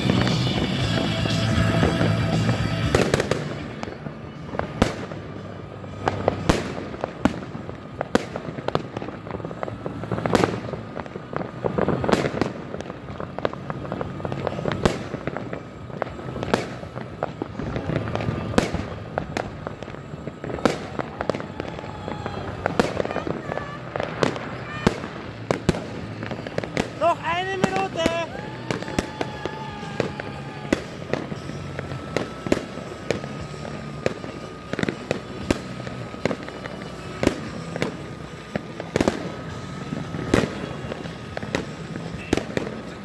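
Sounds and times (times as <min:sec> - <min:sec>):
distant fireworks din: 0:00.0 - 0:43.0
loud firework bangs: 0:00.0 - 0:43.0.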